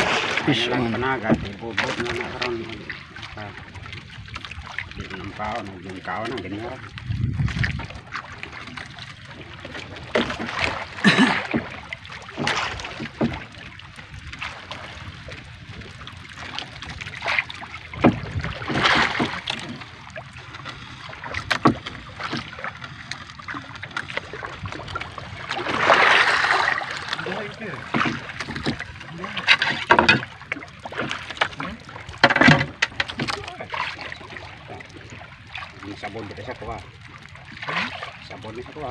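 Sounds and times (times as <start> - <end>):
water splashing against boat hull: 0.0 - 38.9.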